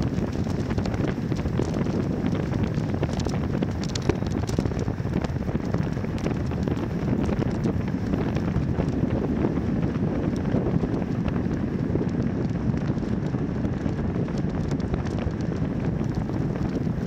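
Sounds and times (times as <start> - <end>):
faint ticks and rattles: 0.0 - 17.0
wind buffeting microphone: 0.0 - 17.0.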